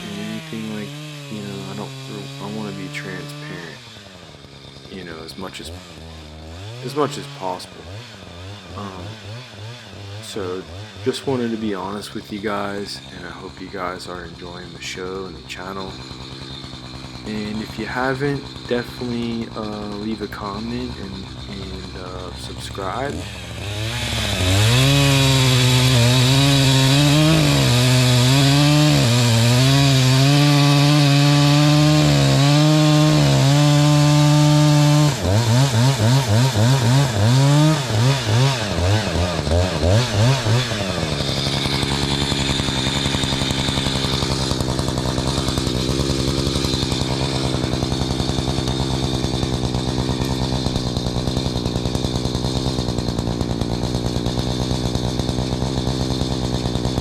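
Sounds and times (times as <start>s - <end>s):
chainsaw cutting wood: 0.0s - 57.0s
chainsaw revving: 0.0s - 57.0s.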